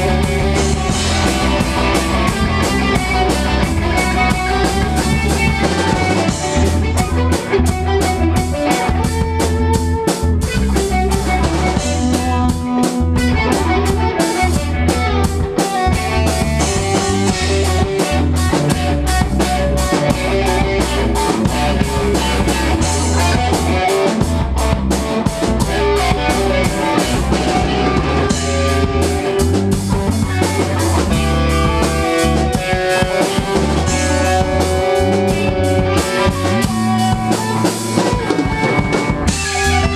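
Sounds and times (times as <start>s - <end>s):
drum kit steady beat: 0.0s - 39.9s
electric guitars: 0.0s - 39.9s.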